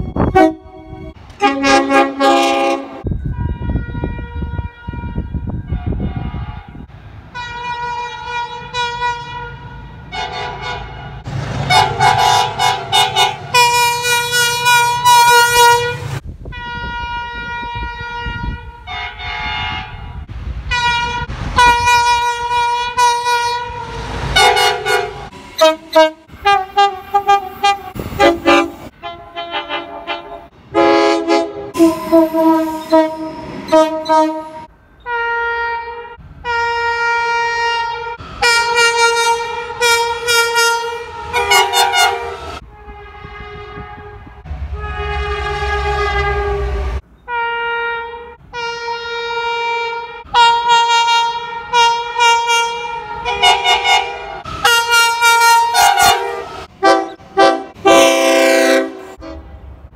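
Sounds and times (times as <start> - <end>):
train horn blasts: 0.0 - 59.6
locomotive engine rumble: 5.4 - 59.9.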